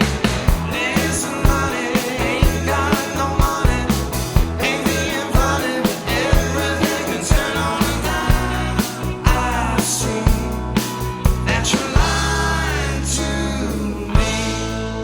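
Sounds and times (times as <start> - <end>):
drum kit beat: 0.0 - 13.0, 14.2 - 15.0
bass guitar: 0.0 - 15.0
electric guitars: 0.0 - 15.0
keyboard: 0.0 - 15.0.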